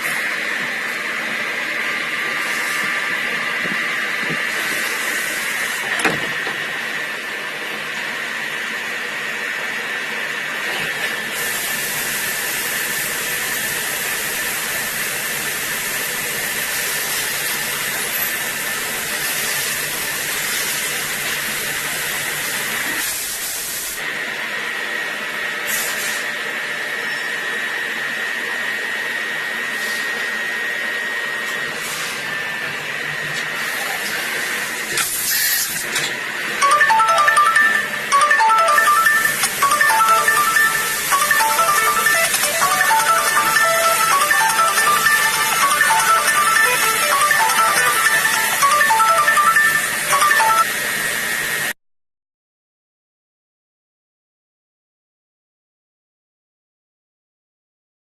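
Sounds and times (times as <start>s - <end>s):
machine spindle whine: 0.0s - 23.3s, 24.0s - 51.8s.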